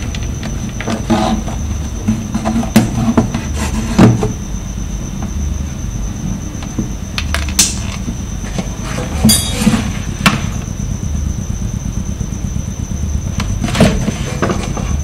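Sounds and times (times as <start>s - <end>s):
steady low hum: 0.0s - 15.0s
thin high steady tone: 0.0s - 15.0s.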